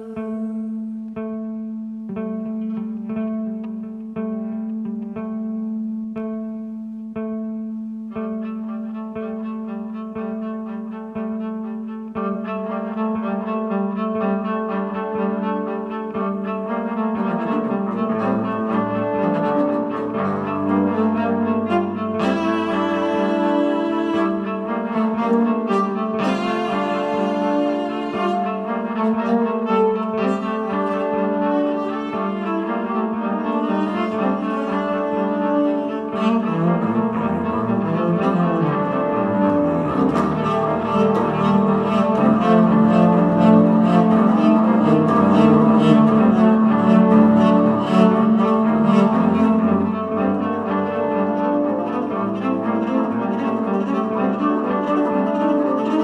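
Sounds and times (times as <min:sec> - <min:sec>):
layered bowed cello lines: 0:00.0 - 0:56.0.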